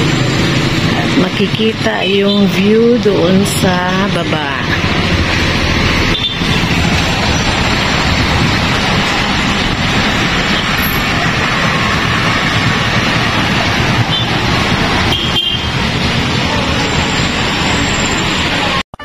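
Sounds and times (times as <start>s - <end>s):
motorcycles and cars passing: 0.0s - 18.8s.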